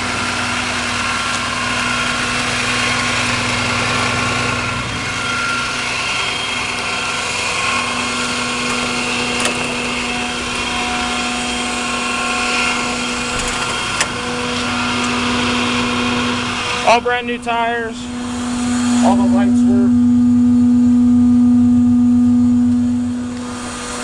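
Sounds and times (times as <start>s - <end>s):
air compressor humming: 0.0s - 24.0s
truck engine running: 0.0s - 24.0s.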